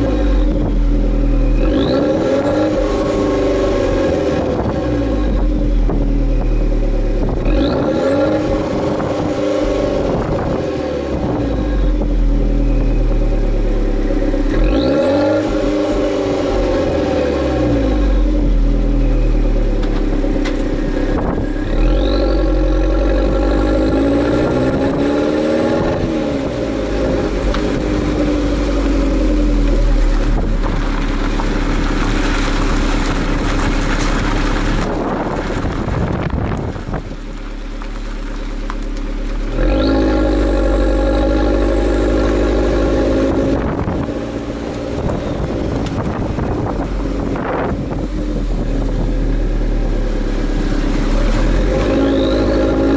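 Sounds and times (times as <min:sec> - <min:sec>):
car engine revving: 0:00.0 - 0:52.9
turbo whine: 0:00.0 - 0:52.9
wind and road noise: 0:00.0 - 0:52.9.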